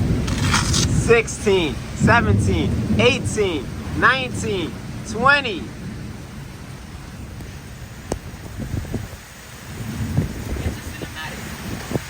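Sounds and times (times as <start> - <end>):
rainstorm: 0.0 - 12.0
wind buffeting microphone: 0.0 - 12.0.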